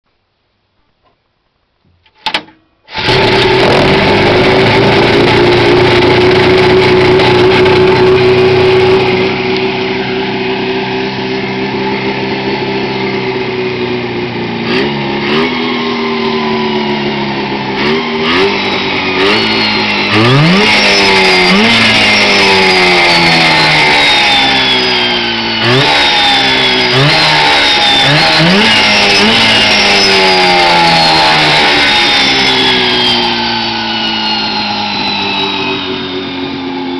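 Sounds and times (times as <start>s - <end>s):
two-stroke engine revving: 2.9s - 36.9s.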